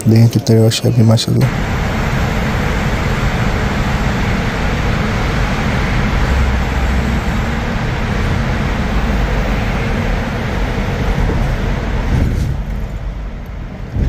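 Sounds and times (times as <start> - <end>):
road and engine noise inside car: 1.4 - 14.0.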